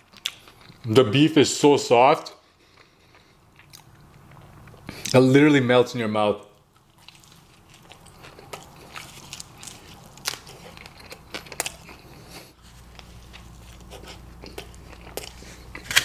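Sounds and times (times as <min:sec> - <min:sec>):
person chewing food: 0:00.0 - 0:00.9, 0:02.5 - 0:05.2, 0:06.6 - 0:16.0.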